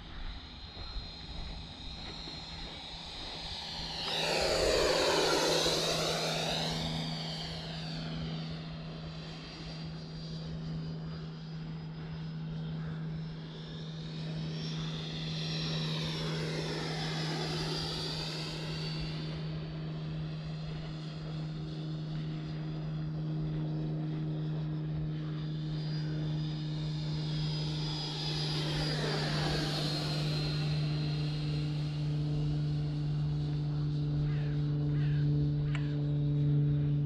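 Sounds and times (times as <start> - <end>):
model jet whooshing fly-by: 0.0 - 37.0.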